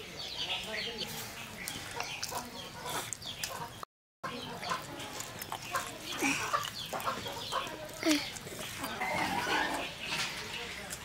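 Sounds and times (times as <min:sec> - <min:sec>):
chickens clucking: 0:00.3 - 0:11.0.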